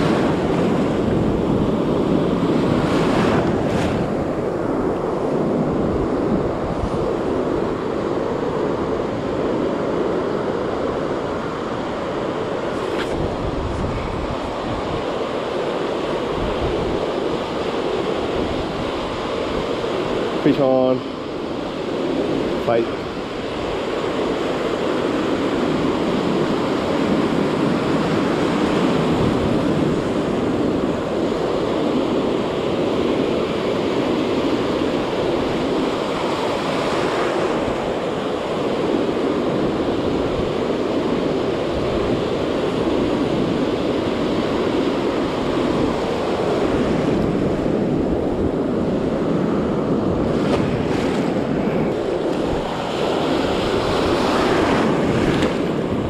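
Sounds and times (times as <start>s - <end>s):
ocean surf breaking: 0.0s - 56.0s
wind on microphone: 0.0s - 56.0s.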